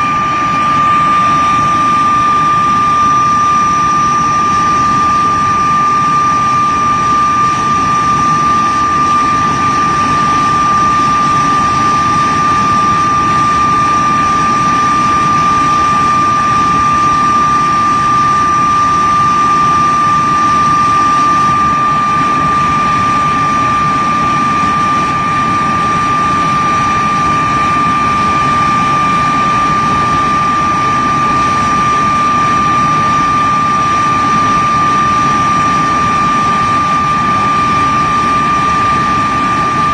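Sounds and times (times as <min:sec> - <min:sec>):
jet engine whine: 0:00.0 - 0:39.9.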